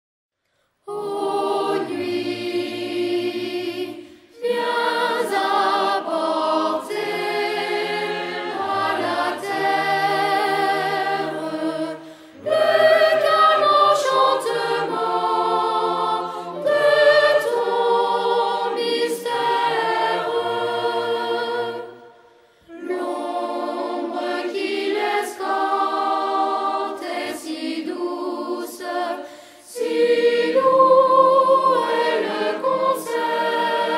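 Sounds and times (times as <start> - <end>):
choir singing sustained chords: 0.9 - 33.9.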